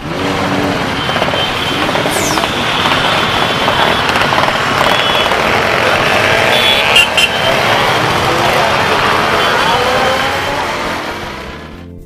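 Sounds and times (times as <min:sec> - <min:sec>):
motorcycles running: 0:00.0 - 0:11.8.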